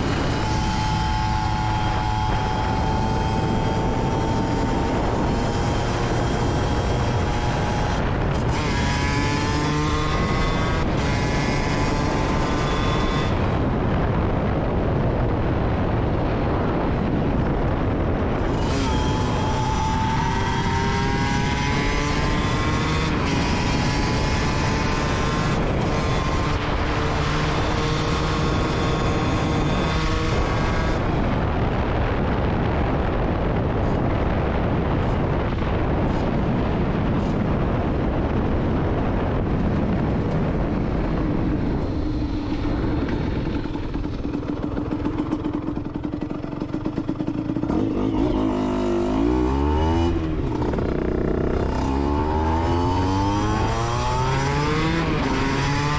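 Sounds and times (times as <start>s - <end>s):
two-stroke motorcycle engine revving: 0.0s - 55.9s.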